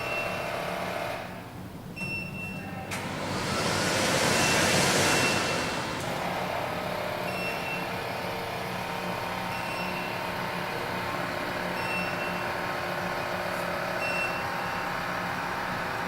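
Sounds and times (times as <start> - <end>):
extractor fan running: 2.8 - 16.0.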